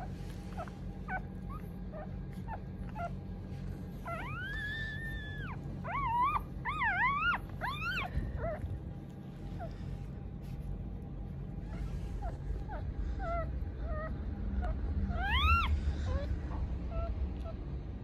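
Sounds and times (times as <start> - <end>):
puppy squeaking and crying: 0.0 - 9.9, 11.5 - 17.7.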